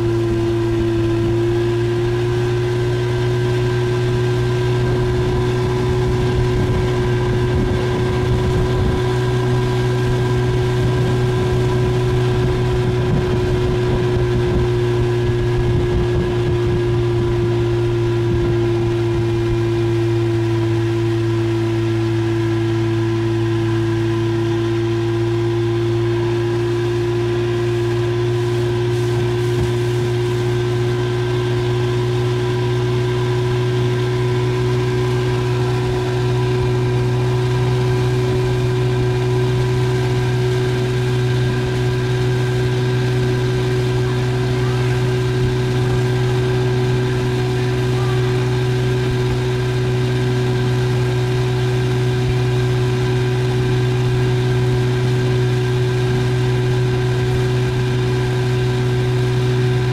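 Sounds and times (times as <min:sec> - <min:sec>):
outboard motor humming: 0:00.0 - 0:59.9.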